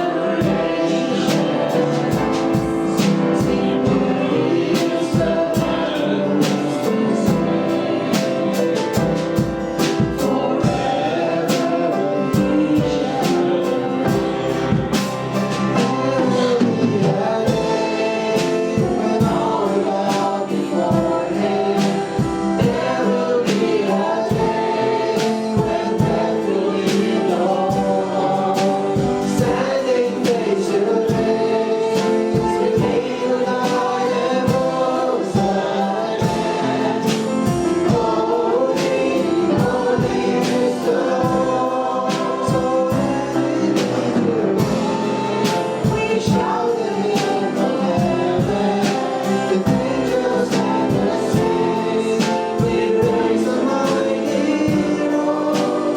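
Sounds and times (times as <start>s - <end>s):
congregation singing with band: 0.0s - 55.9s.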